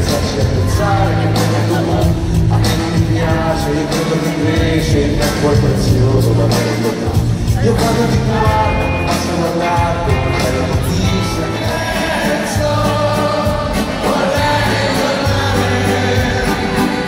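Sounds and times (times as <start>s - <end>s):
drums: 0.0s - 17.0s
heavy bass line: 0.0s - 17.0s
live pop-rock band playing: 0.0s - 17.0s.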